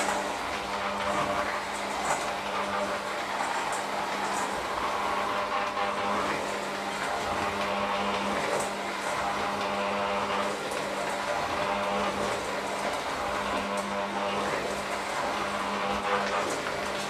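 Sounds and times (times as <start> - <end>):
electric hand mixer running: 0.0 - 17.0.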